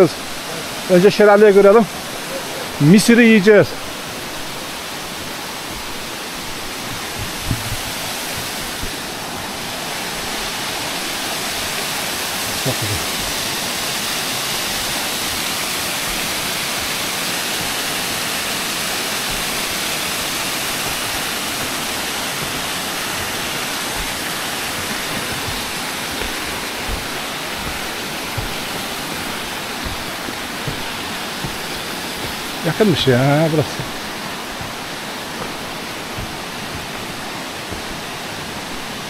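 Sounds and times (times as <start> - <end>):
waterfall rushing over rocks: 0.0 - 39.0.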